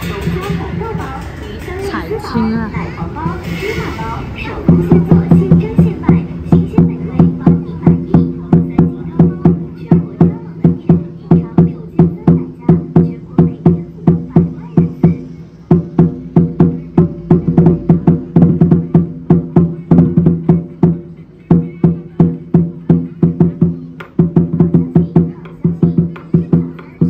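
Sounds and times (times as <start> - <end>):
drum beating deep booms: 4.4 - 27.0.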